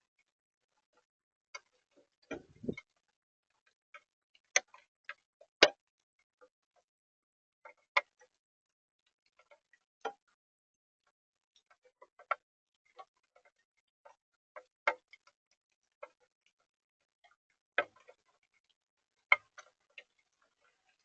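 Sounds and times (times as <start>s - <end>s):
light ticks and taps on camera: 0.9s - 3.0s, 3.6s - 6.9s, 7.6s - 8.4s, 9.3s - 10.4s, 11.0s - 21.0s.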